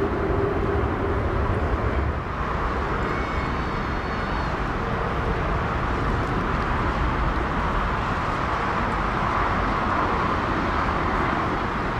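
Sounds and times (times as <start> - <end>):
jet airliner engines roaring: 0.0 - 11.9.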